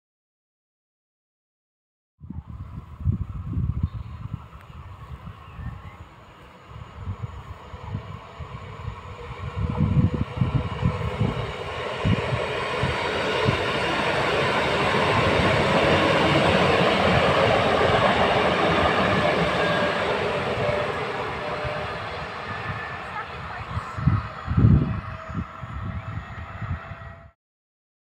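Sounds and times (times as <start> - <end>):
wheels on rail: 2.3 - 27.4
electric train passing: 2.5 - 27.4.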